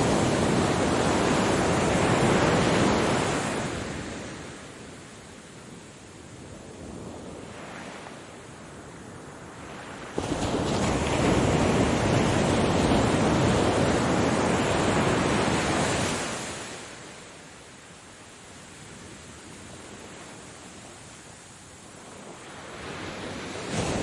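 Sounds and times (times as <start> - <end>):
ocean waves breaking: 0.0 - 5.2, 6.8 - 17.6, 18.8 - 24.0.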